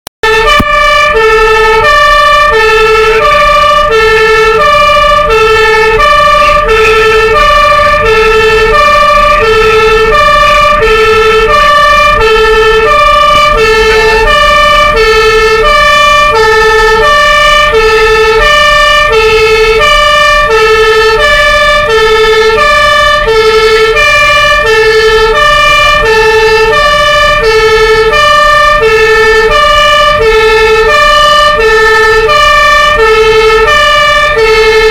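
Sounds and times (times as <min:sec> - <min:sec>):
truck engine running: 0:00.2 - 0:34.9
two-tone fire engine siren: 0:00.2 - 0:34.9.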